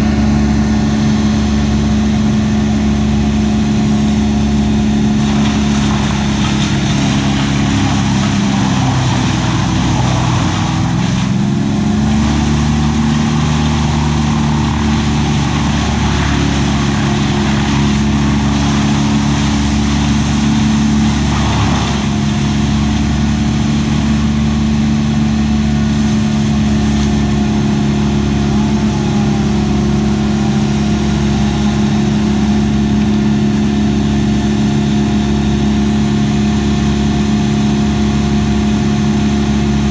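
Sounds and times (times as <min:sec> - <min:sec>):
engine running at high speed: 0:00.0 - 0:39.9.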